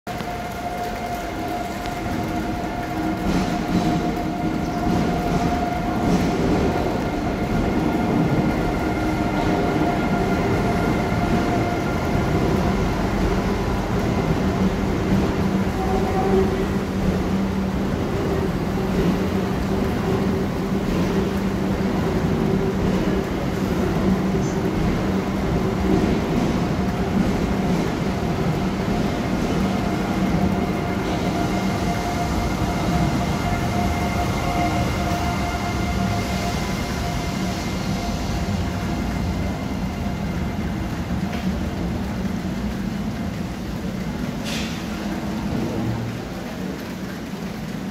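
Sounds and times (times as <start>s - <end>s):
train rumbling past: 0.1s - 47.9s.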